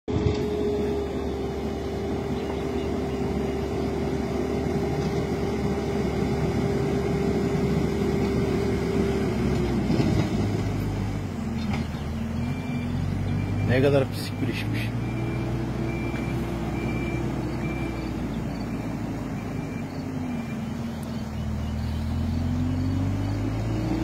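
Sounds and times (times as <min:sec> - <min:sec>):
construction machine engine: 0:00.1 - 0:24.0.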